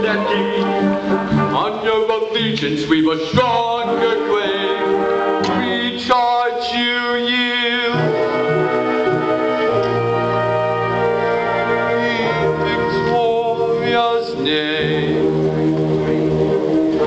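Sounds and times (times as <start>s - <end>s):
operetta singing: 0.0s - 10.2s, 10.9s - 17.0s
instrumental accompaniment: 0.0s - 17.0s.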